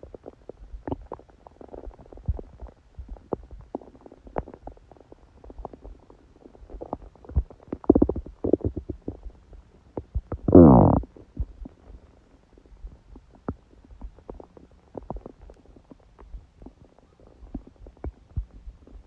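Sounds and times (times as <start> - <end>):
stomach growl: 0.0 - 19.0
stomach gurgling: 0.0 - 19.0.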